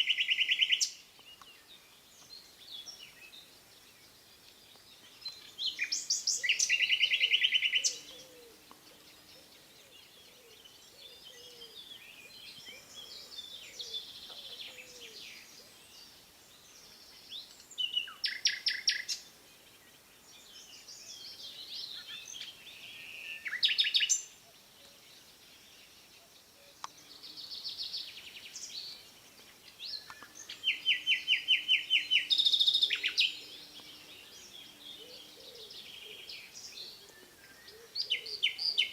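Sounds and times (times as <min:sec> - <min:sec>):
songbird trills: 0:00.0 - 0:38.9.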